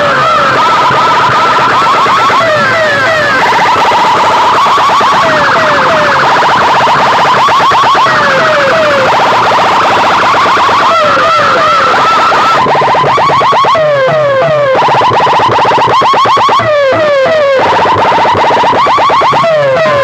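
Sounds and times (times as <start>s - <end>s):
falling siren sweeps: 0.0s - 20.0s
rapid rising siren chirps: 0.0s - 20.0s.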